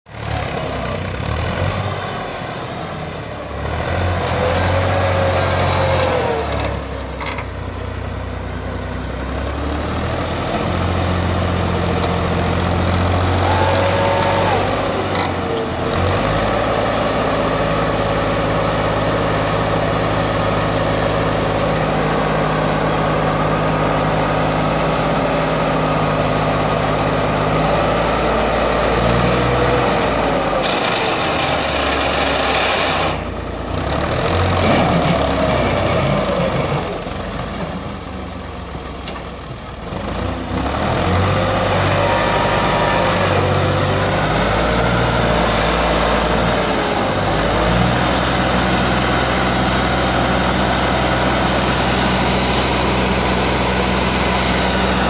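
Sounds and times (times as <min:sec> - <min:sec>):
tractor diesel engine straining: 0:00.1 - 0:55.0.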